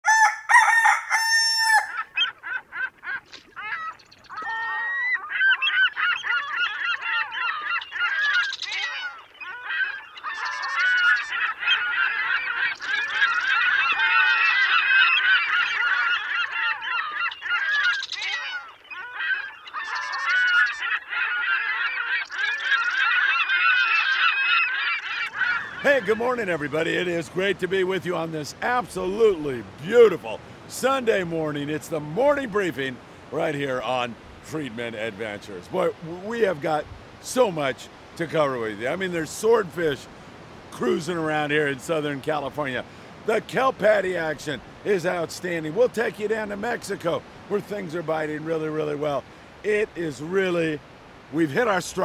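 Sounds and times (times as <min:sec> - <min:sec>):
flock of birds calling: 0:00.0 - 0:52.0.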